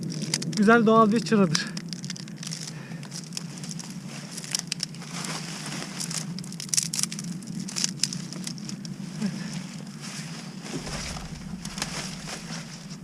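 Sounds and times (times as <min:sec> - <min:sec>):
dry wood and leaves crackling: 0:00.0 - 0:13.0.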